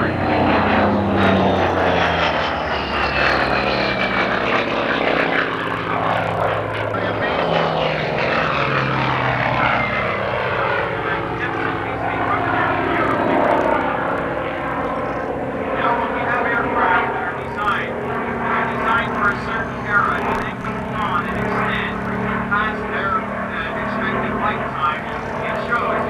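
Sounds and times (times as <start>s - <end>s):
propeller aircraft flying past: 0.0s - 26.0s.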